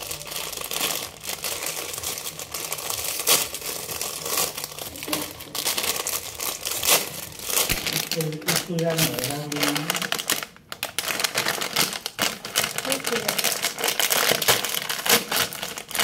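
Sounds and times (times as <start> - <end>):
plastic packets crinkling: 0.0 - 16.0.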